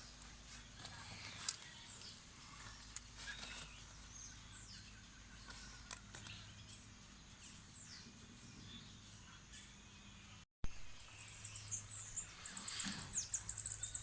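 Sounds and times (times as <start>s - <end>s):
birds chirping and whistling: 1.1s - 14.0s.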